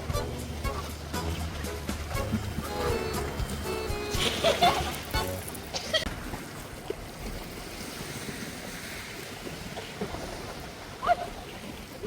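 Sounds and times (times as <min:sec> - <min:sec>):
sea surf washing: 0:00.0 - 0:12.0.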